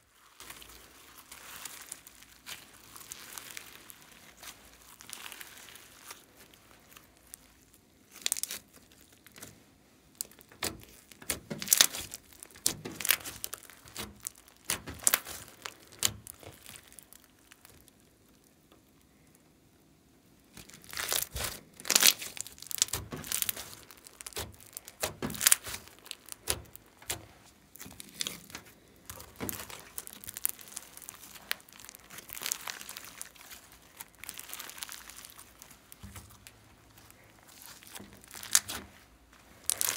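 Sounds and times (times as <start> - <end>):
hands squeezing sticky slime: 0.0 - 19.3, 20.4 - 39.9.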